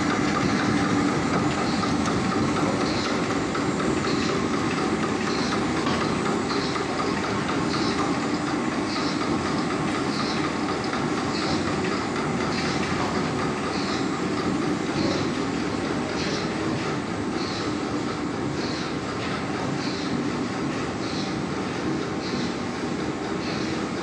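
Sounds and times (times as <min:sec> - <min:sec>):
briquetting machine running: 0:00.0 - 0:24.0.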